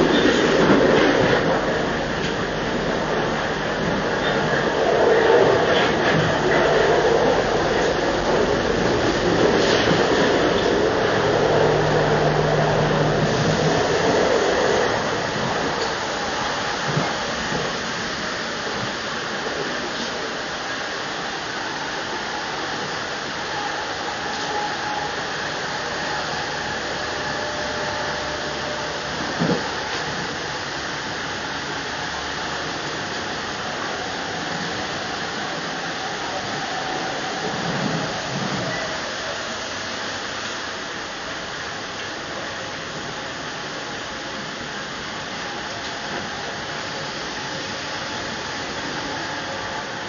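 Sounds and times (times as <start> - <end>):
train rushing noise inside carriage: 0.0 - 50.0.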